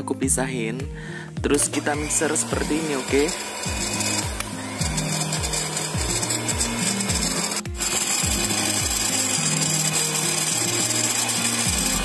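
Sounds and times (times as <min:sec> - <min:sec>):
electric hand mixer whirring: 0:01.5 - 0:12.0.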